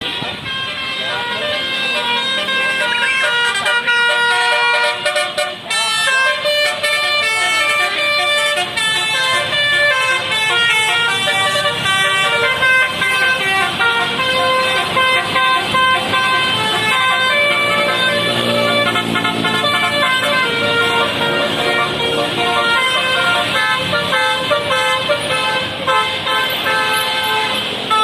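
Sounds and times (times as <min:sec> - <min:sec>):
multi-tone bus horn melody: 0:00.0 - 0:28.0.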